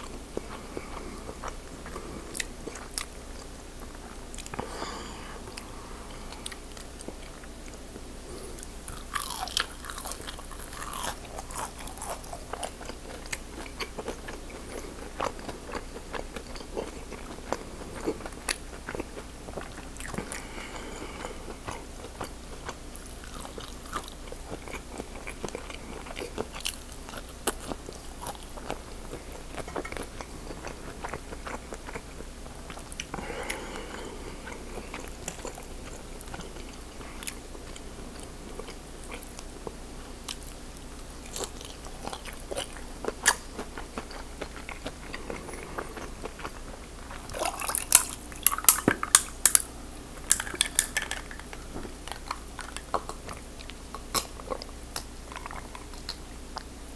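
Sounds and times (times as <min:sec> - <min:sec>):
crunchy chewing: 0:00.0 - 0:56.8.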